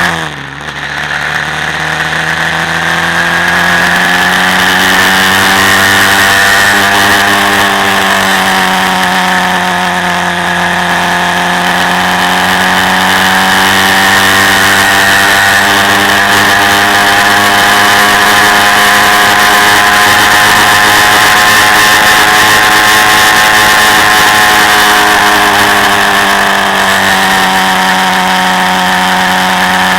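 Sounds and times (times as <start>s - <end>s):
quad bike engine running: 0.0s - 29.9s.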